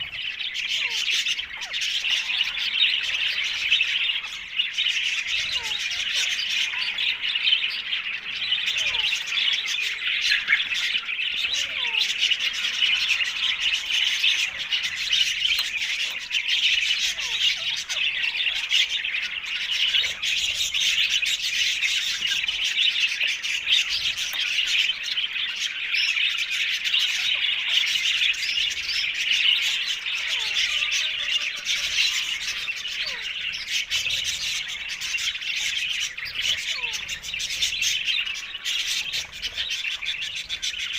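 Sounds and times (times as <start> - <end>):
parakeets chirping and squawking: 0.0 - 40.9.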